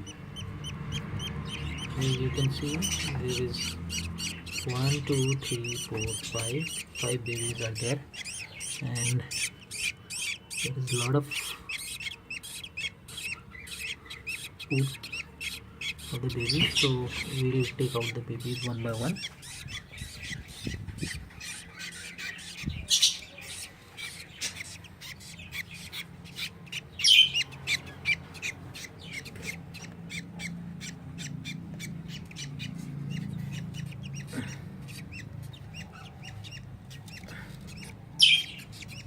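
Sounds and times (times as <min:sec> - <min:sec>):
budgie chicks squawking and chirping: 0:00.0 - 0:39.0.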